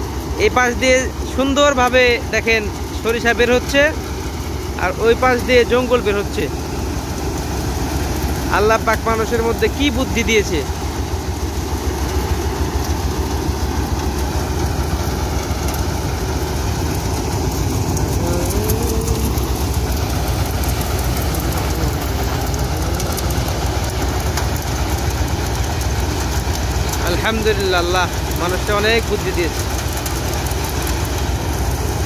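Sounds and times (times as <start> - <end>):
threshing machine droning: 0.0 - 32.0.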